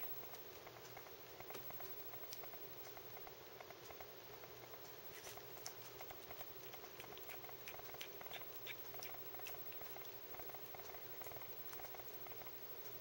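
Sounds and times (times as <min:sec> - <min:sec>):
cat crunching an insect: 0:00.2 - 0:04.1, 0:04.8 - 0:13.0.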